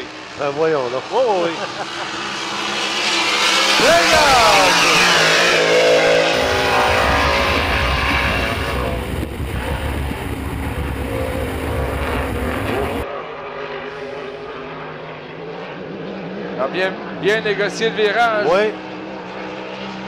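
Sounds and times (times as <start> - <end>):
racing boat engine roaring: 0.0 - 20.0.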